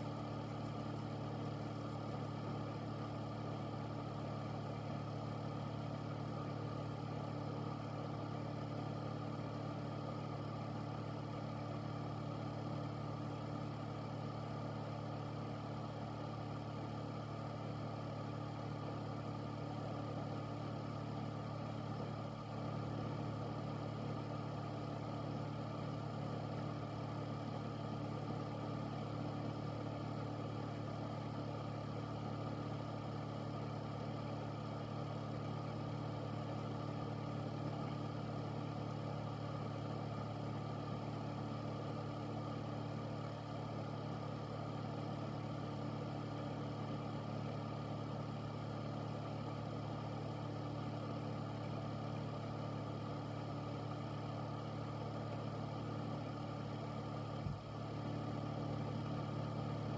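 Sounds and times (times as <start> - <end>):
fan motor hum: 0.0 - 59.9.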